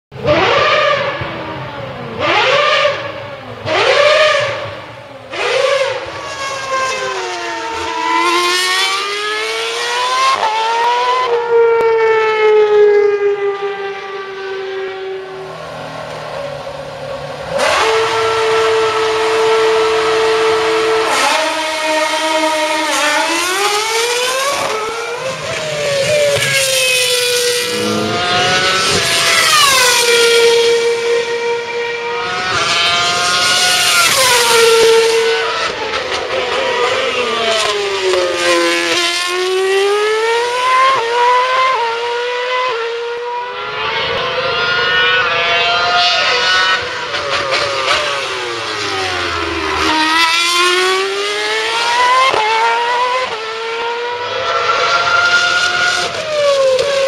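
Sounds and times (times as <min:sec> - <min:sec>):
racing cars passing at high revs: 0:00.2 - 0:57.0.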